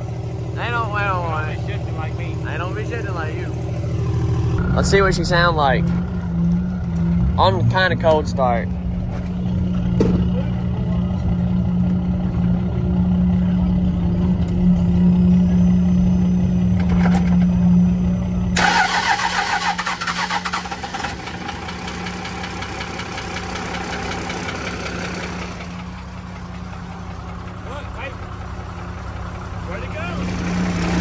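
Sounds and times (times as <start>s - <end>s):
diesel truck engine starting and running: 0.0s - 31.0s.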